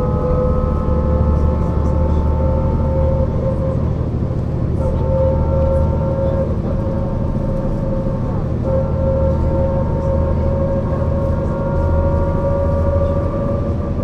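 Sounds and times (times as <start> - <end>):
bus engine drone: 0.0 - 14.0
high drivetrain whine: 0.0 - 14.0.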